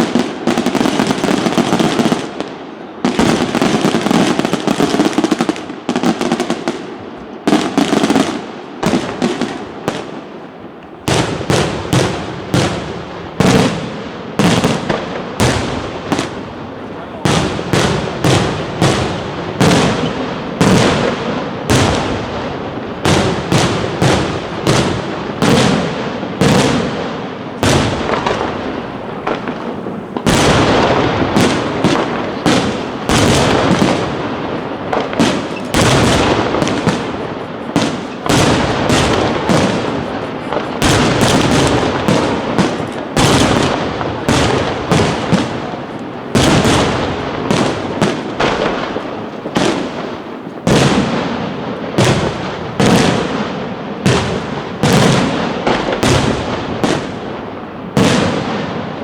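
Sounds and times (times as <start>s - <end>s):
fireworks bursts with crackling: 0.0s - 59.0s.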